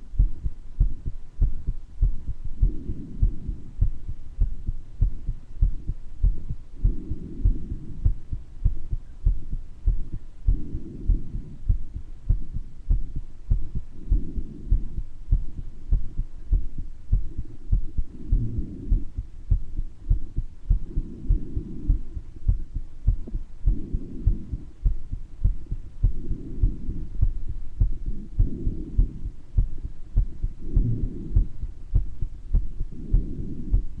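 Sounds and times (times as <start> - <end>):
breath sounds: 0.0 - 34.0
heart beating: 0.0 - 34.0.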